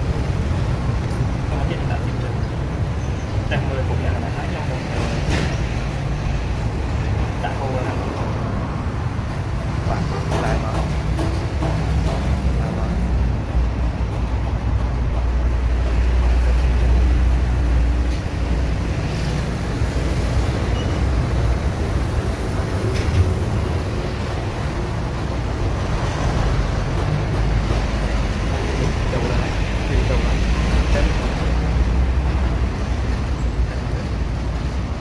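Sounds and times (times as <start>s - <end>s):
low rumbling background noise: 0.0s - 35.0s.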